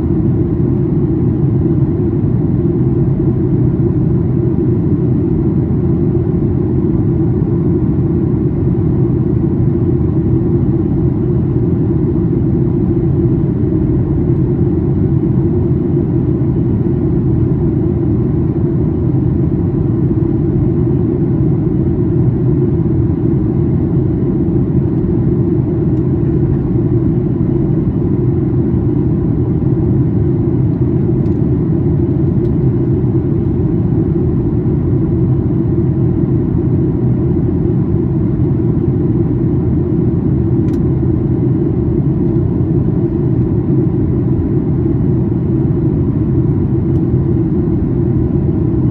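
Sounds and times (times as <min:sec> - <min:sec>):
airplane cabin roar: 0:00.0 - 0:48.9.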